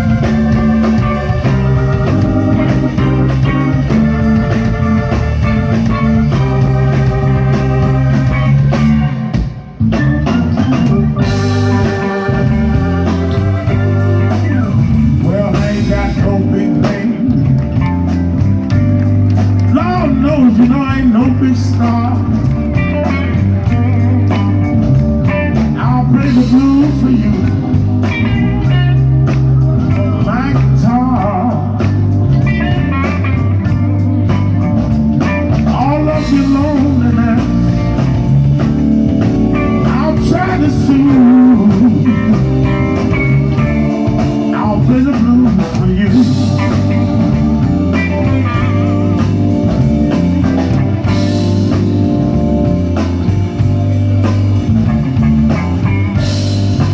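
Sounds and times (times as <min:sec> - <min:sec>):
electric guitar bending notes: 0:00.0 - 0:56.9
live blues band playing: 0:00.0 - 0:56.9.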